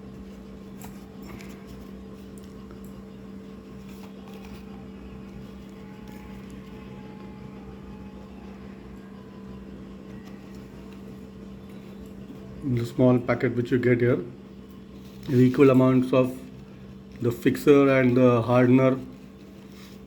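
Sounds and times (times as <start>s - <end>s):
two-tone mechanical hum: 0.0s - 20.0s.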